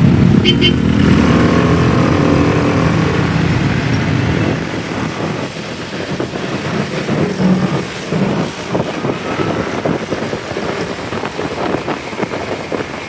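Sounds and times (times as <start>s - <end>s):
motorcycle engine running: 0.0s - 13.0s
road and wind noise: 0.0s - 13.0s
street traffic: 0.0s - 13.0s.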